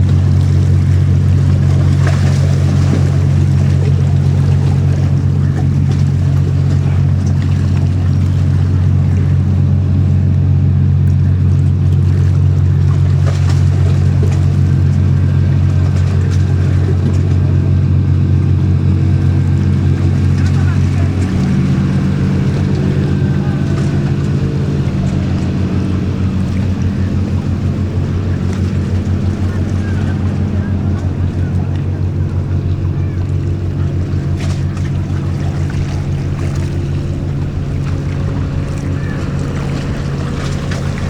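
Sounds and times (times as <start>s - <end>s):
ferry engines droning: 0.0s - 41.0s.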